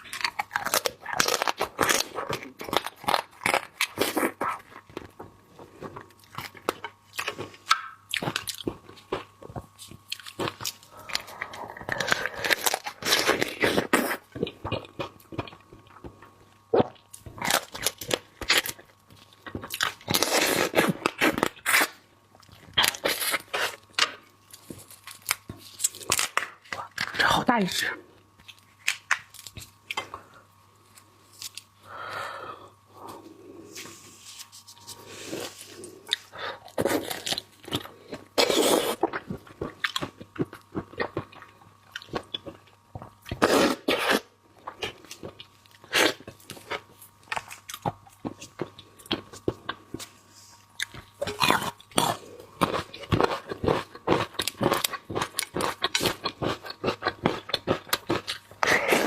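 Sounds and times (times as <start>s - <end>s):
wet chewing and crunching: 0.0s - 27.7s, 34.5s - 59.0s.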